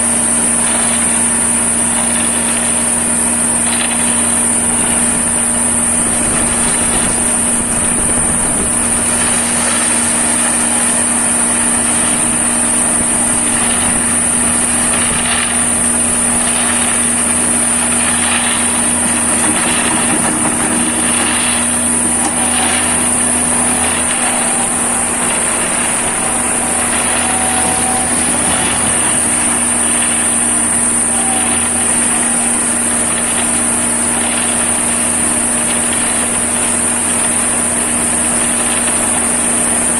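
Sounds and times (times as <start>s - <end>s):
concrete mixer engine running: 0.0s - 39.9s
high-pitched whine: 0.0s - 39.9s.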